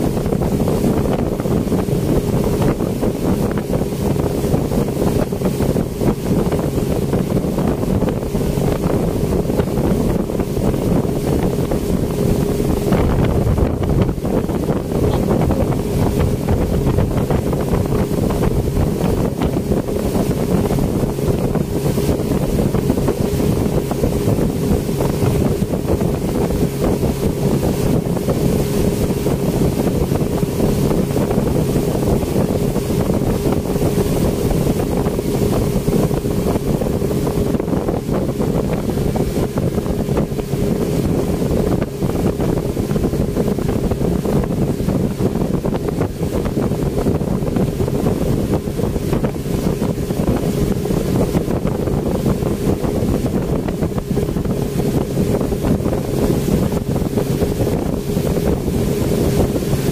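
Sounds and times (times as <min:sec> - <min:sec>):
outboard motor droning: 0:00.0 - 0:59.9
rush of boat wake: 0:00.0 - 0:59.9
wind buffeting microphone: 0:00.0 - 0:59.9.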